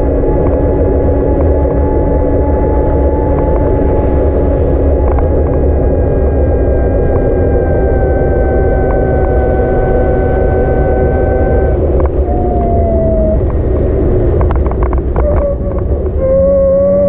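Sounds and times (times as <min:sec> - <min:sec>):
electric motor whine: 0:00.0 - 0:17.0
wind rush: 0:00.0 - 0:17.0.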